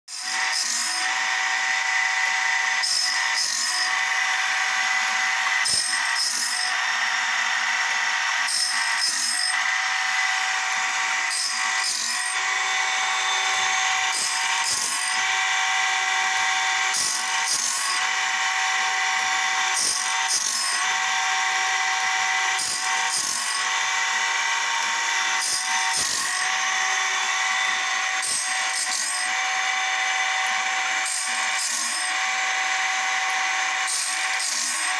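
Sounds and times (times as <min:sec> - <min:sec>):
grinding wheel motor whine: 0:00.1 - 0:34.9.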